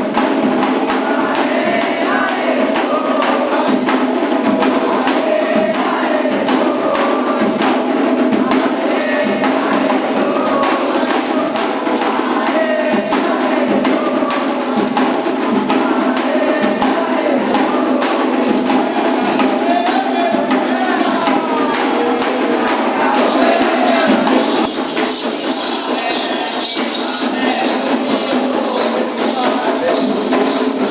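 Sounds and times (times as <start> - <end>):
drums beating a steady rhythm: 0.0 - 30.9
voices singing: 0.0 - 30.9.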